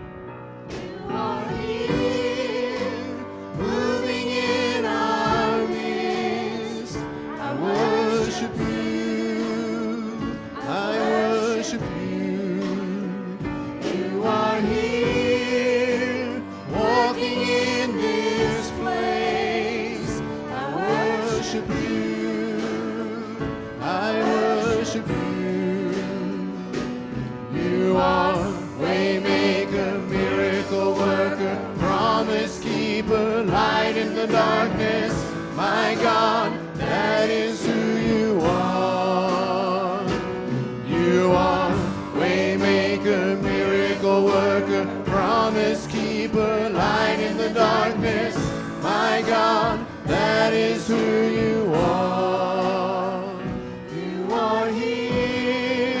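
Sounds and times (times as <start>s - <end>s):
gospel group singing: 0.0s - 56.0s.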